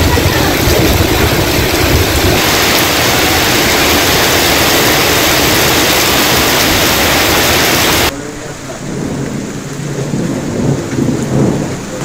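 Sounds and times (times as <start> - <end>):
heavy rain pouring: 0.0 - 12.0
low rumble: 0.0 - 12.0.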